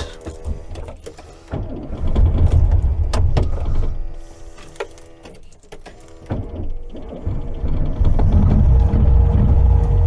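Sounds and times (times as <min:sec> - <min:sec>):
car engine starting and idling: 0:00.0 - 0:10.0.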